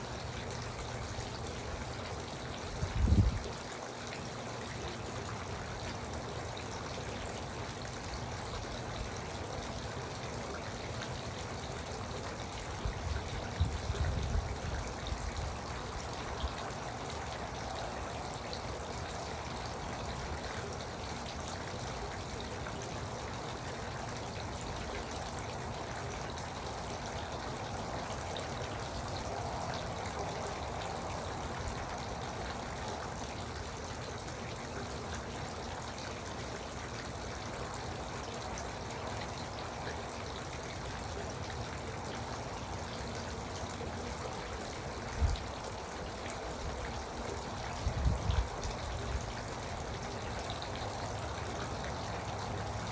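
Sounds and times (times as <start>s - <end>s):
fountain trickling and splashing: 0.0s - 52.9s.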